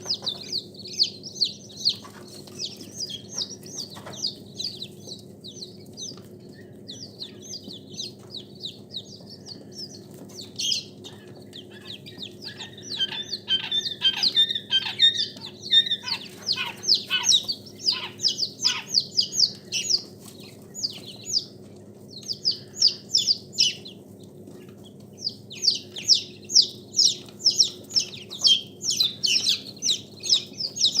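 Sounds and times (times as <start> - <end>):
chicks chirping and peeping: 0.0 - 31.0
steady low hum: 0.0 - 31.0.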